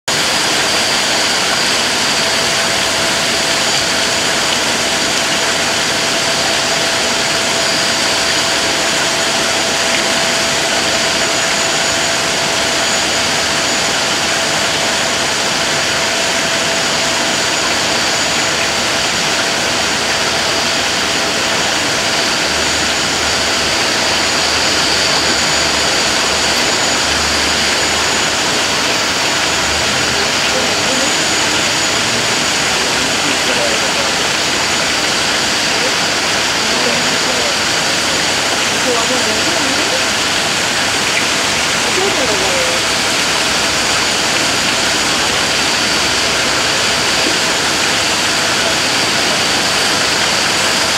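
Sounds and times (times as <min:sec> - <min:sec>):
loud steady rushing noise: 0:00.0 - 0:50.9
faint high whine: 0:00.1 - 0:50.9
low hum: 0:00.1 - 0:50.9.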